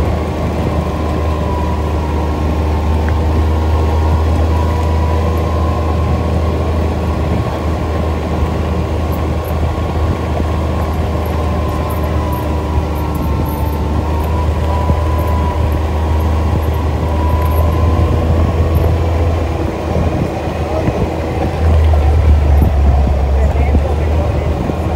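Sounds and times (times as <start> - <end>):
atv engine droning: 0.0 - 24.9
faint wavering whine: 0.0 - 24.9.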